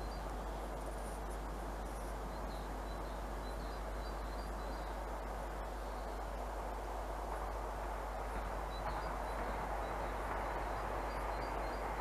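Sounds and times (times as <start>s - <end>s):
small birds chirping: 0.0s - 6.8s, 8.3s - 12.0s
outdoor background hiss: 0.0s - 12.0s.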